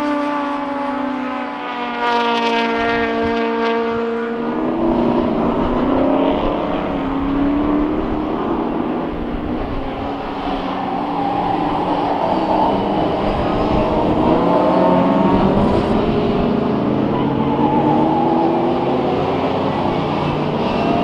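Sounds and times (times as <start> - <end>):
racing cars passing at speed: 0.0 - 21.0.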